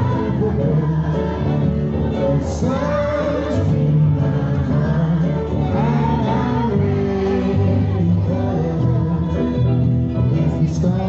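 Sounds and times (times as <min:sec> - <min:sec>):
person singing live: 0:00.0 - 0:11.0.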